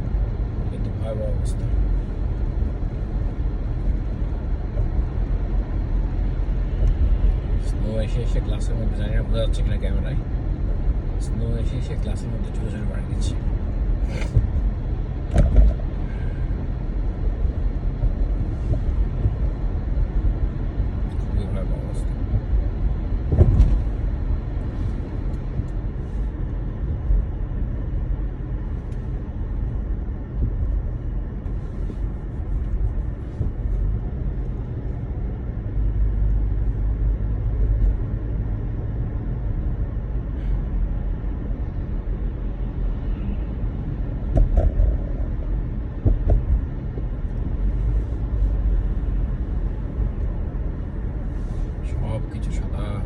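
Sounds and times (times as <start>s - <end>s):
car driving on snowy road: 0.0s - 53.0s.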